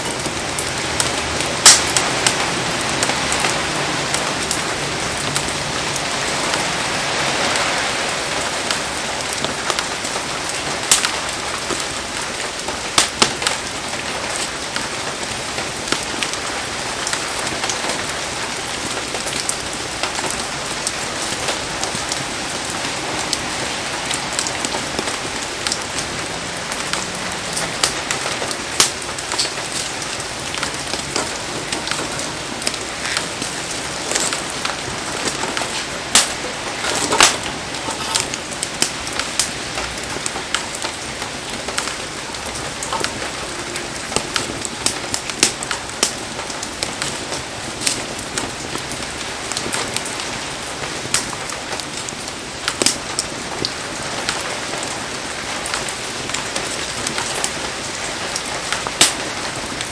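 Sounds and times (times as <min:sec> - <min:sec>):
heavy rain hiss: 0:00.0 - 0:59.9
rain pops and ticks: 0:00.0 - 0:59.9.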